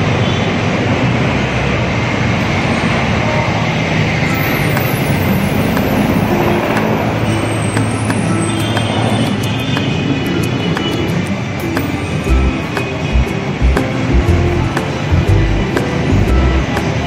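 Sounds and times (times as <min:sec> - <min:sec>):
vehicles passing on road: 0:00.0 - 0:17.0.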